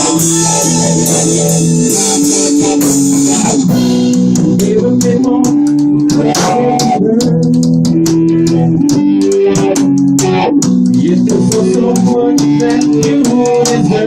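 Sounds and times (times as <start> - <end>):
bass guitar: 0.0 - 14.0
electric guitar sustained notes: 0.0 - 14.0
steady drum hits: 0.0 - 14.0.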